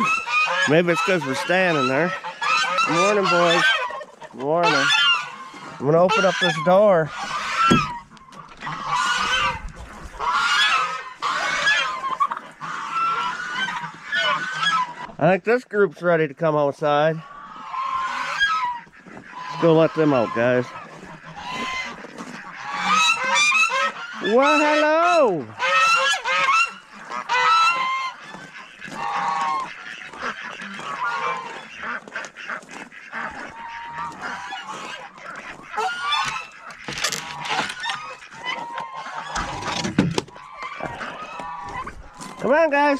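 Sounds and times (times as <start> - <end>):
poultry honking: 0.0 - 15.4, 17.1 - 42.9.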